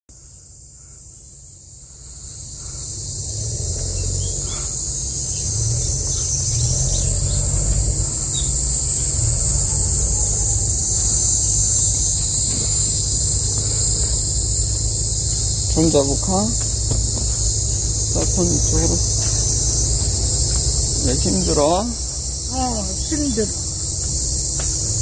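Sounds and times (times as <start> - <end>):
cicadas buzzing: 0.1 - 25.0
low rumble: 2.6 - 25.0.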